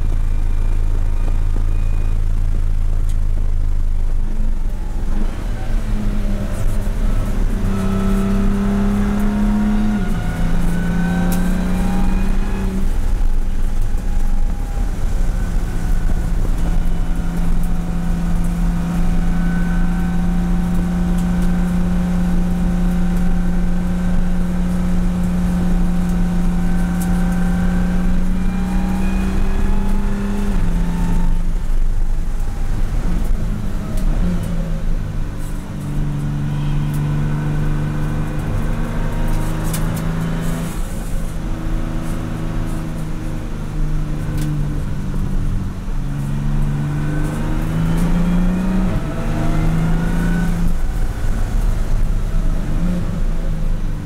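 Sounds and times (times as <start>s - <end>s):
car engine revving: 0.0s - 54.0s
gear change: 0.0s - 54.0s.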